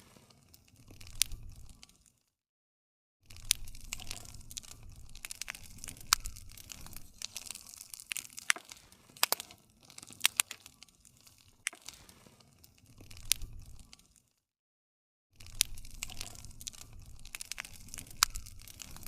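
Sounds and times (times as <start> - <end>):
campfire crackling and popping: 0.0 - 2.2, 3.3 - 14.3, 15.4 - 19.0.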